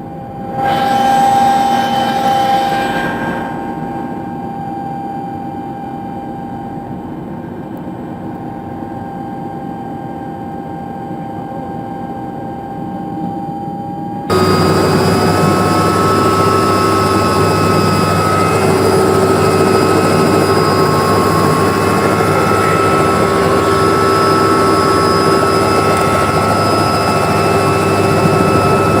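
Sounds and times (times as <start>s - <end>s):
helicopter rotor and engine drone: 0.0s - 29.0s.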